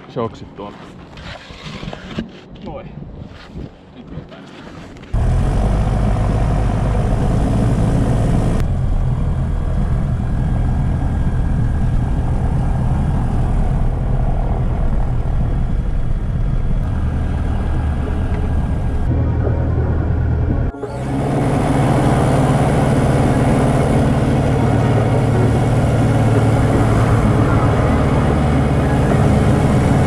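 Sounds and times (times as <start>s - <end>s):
light aircraft engine droning: 5.2s - 30.0s.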